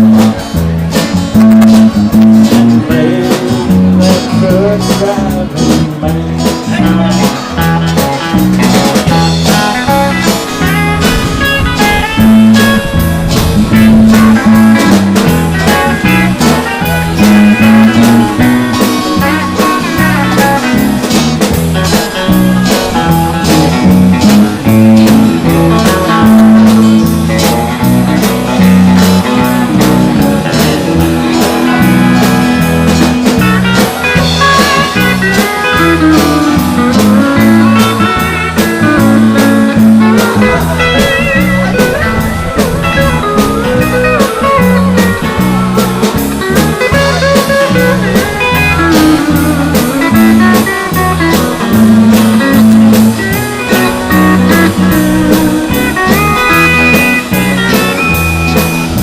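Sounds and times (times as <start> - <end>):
bass: 0.0 - 59.0
electric guitar: 0.0 - 59.0
steady drum beat: 0.0 - 59.0.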